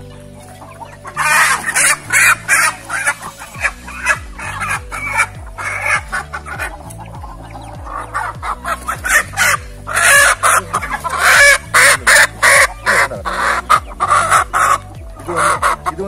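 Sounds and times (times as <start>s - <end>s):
chickens clucking: 0.0s - 16.0s
faint music with repeating beat: 0.0s - 16.0s.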